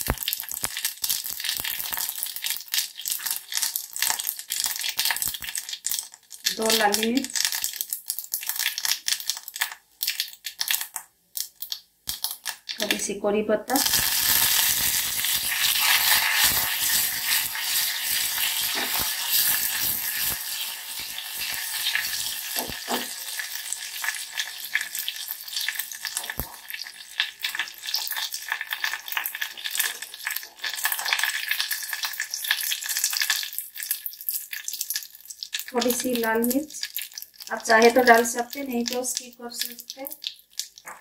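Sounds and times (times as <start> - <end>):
crackles: 0.0 - 41.0
spices sizzling in hot oil: 0.0 - 41.0.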